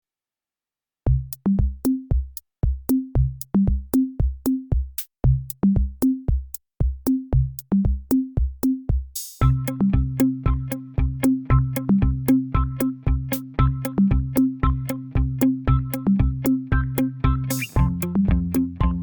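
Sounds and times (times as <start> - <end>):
electronic drum-machine beat: 1.1 - 19.0.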